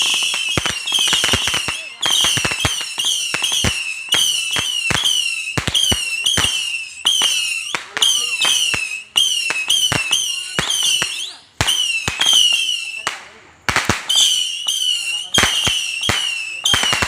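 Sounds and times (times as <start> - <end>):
whistling rockets launching: 0.0 - 17.0.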